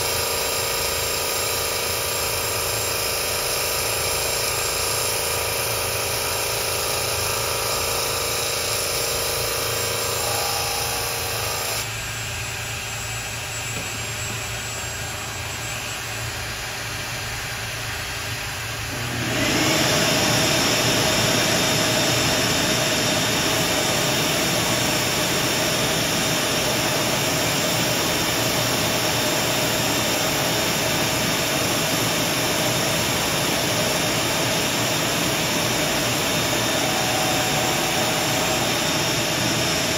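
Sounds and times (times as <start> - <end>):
vacuum dust extractor rushing: 0.0 - 15.9, 18.7 - 39.9
drill powered drum sander humming: 0.0 - 39.9.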